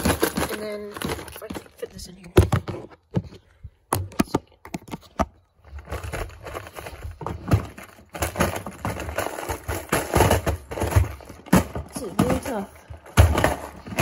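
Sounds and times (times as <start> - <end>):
plastic boxes clattering: 0.0 - 14.0.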